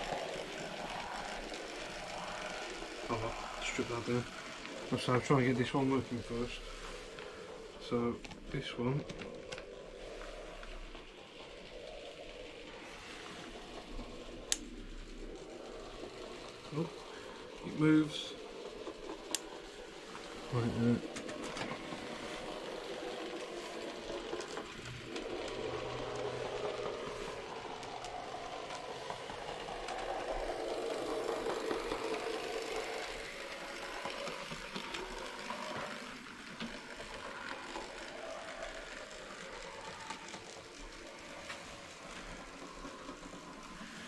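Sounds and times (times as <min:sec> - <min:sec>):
model train motor whir: 0:00.0 - 0:44.0
small wheels clattering on rail: 0:00.0 - 0:44.0.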